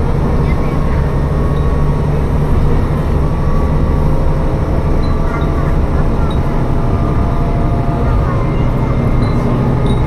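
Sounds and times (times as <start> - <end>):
diesel railcar rumbling on rails: 0.0 - 10.0.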